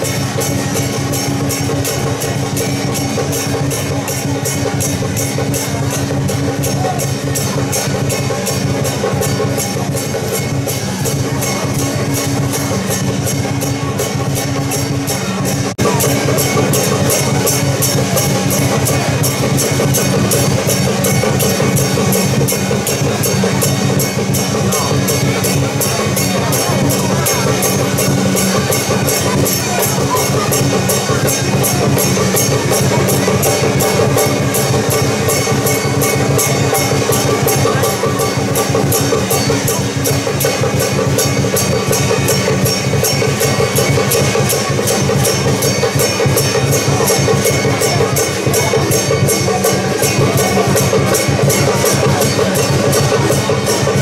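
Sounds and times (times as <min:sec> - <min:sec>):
drums and cymbals beating: 0:00.0 - 0:54.0
steady held tones: 0:00.0 - 0:54.0.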